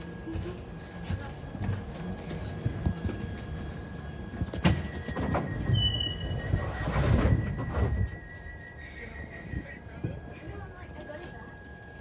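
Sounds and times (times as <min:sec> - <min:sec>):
subway train rumble and whine: 0:00.0 - 0:12.0.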